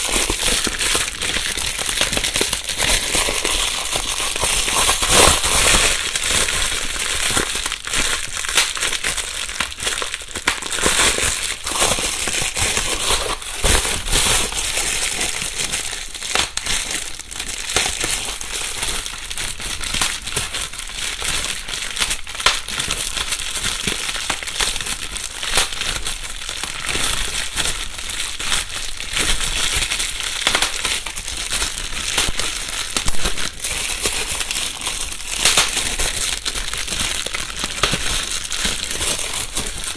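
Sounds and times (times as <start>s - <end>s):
bubble wrap bubbles popping: 0.0s - 39.9s
bubble wrap rustling: 0.0s - 39.9s.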